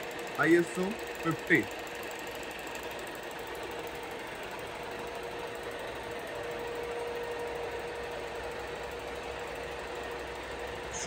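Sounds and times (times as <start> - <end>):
milling machine whirring: 0.0 - 11.0.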